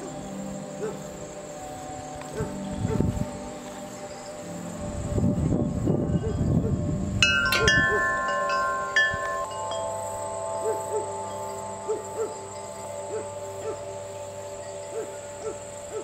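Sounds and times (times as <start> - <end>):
wind chimes ringing: 0.0 - 16.0.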